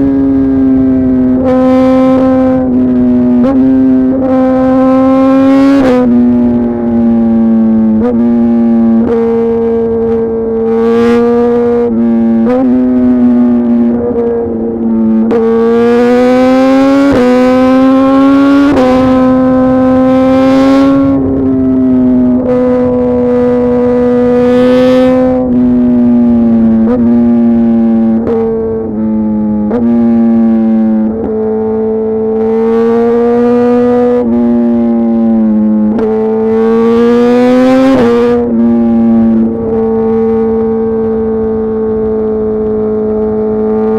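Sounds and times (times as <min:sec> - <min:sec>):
motorcycle engine running hard: 0:00.0 - 0:43.9.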